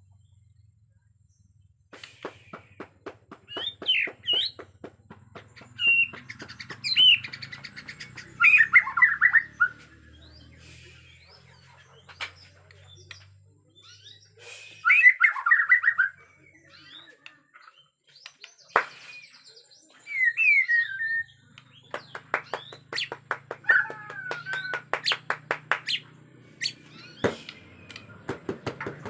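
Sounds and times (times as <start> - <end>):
bird warbled song: 0.0 - 29.0
bird sharp ticking calls: 1.9 - 19.1, 20.1 - 29.0.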